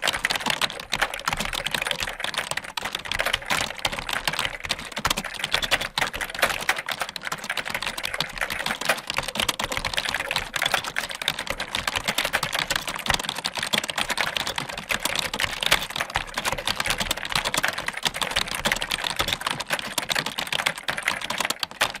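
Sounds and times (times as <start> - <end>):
computer keyboard typing: 0.0 - 22.0.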